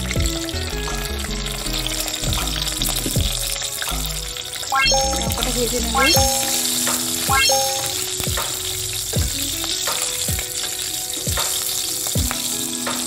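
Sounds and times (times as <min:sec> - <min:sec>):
background music with drum beat: 0:00.0 - 0:13.0
chillies sizzling in hot oil: 0:00.0 - 0:13.0.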